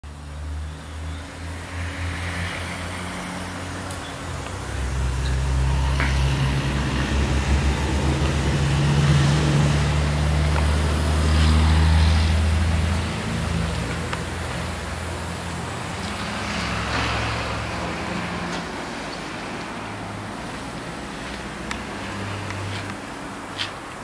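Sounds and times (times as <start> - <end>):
engine humming: 0.1 - 24.0.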